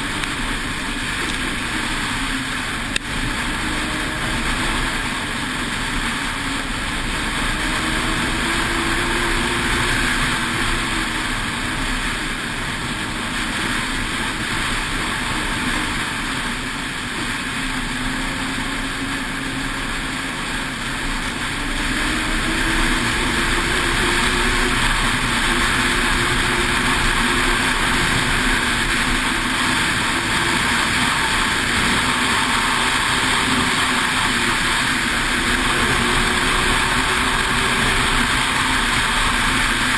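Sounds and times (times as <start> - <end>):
snowmobile engine running: 0.0 - 39.9
steady rushing noise: 0.0 - 39.9.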